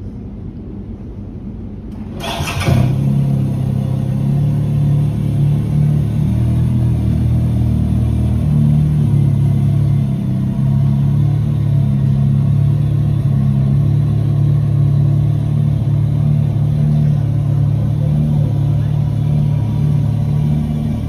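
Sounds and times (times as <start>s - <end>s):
motorcycle engine running: 2.0s - 21.0s.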